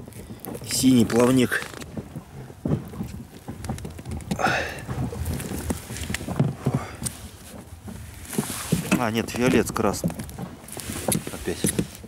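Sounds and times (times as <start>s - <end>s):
water splashing: 0.0s - 12.0s
small knocks: 0.4s - 12.0s.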